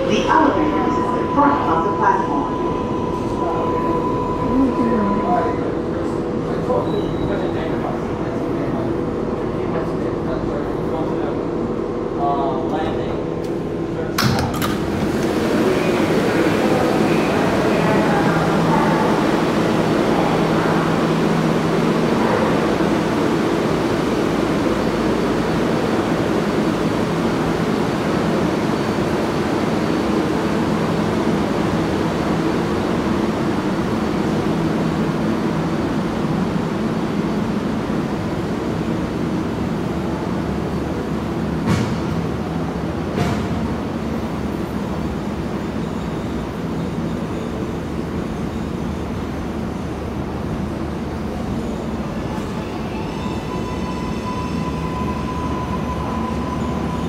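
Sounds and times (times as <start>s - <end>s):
subway station rumble: 0.0s - 57.0s.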